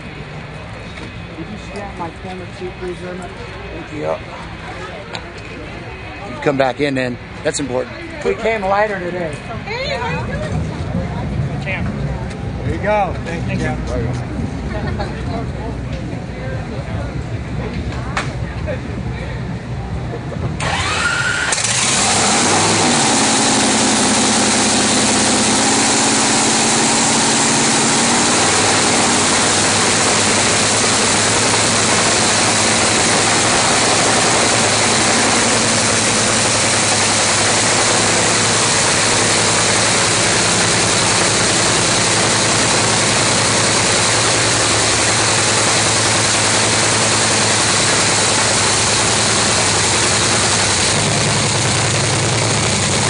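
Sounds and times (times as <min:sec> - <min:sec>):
loud engine roar: 0:00.0 - 0:53.0.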